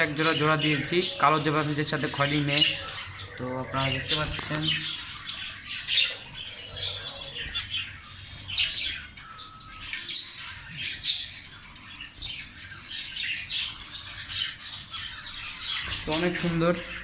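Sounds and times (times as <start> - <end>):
caged birds chirping: 0.0 - 17.0.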